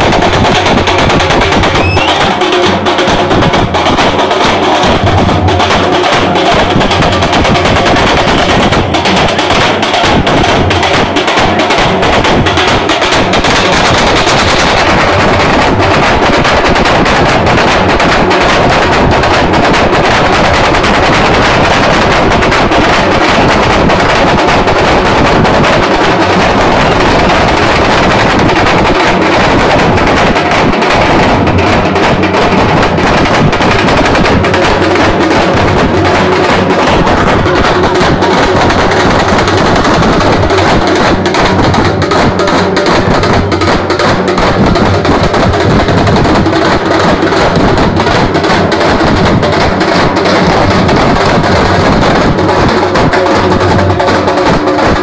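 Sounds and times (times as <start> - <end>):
drum ensemble playing fast: 0.0 - 55.0.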